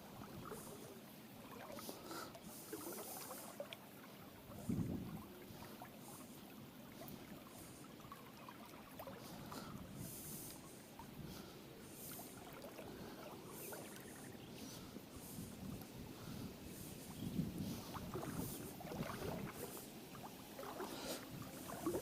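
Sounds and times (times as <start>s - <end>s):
faint wind: 0.0s - 22.0s
river noise: 0.0s - 22.0s.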